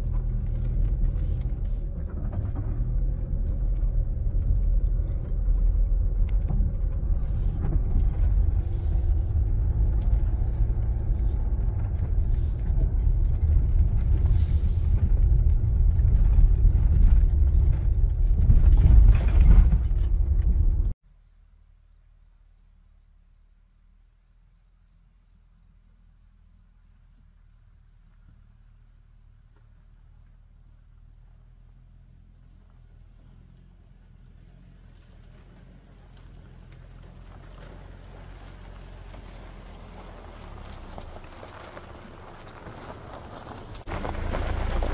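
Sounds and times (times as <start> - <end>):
tyres and suspension rumbling: 0.0 - 21.0, 25.2 - 44.9
faint low rumble: 0.0 - 44.9.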